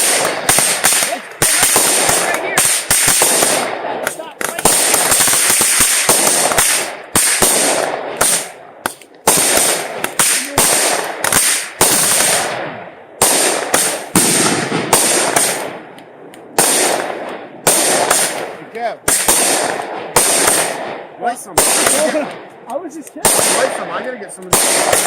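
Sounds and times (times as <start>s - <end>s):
fireworks banging: 0.0s - 25.0s.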